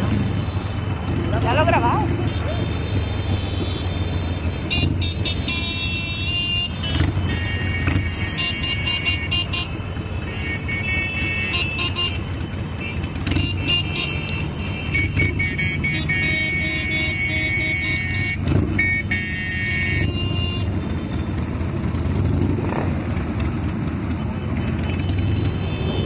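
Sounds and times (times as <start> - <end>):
horns honking: 0.0 - 21.8, 24.5 - 26.0
motorcycle engines rumbling: 0.0 - 26.0.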